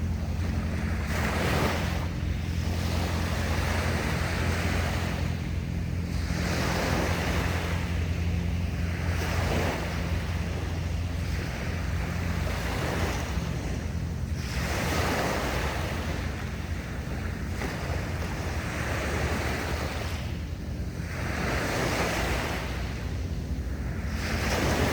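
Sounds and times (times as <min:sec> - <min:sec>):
sea waves washing on shore: 0:00.0 - 0:24.9
wind rumble on microphone: 0:00.0 - 0:24.9.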